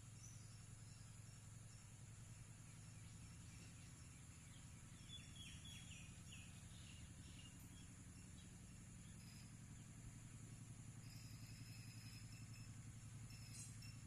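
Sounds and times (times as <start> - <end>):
birds chirping: 0.0 - 14.0
low steady hum: 0.0 - 14.0.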